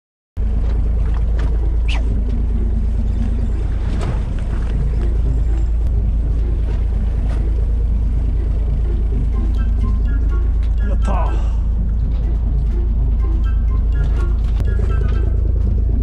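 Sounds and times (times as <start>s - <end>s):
boat engine rumbling: 0.4s - 16.0s
water against hull: 0.4s - 16.0s.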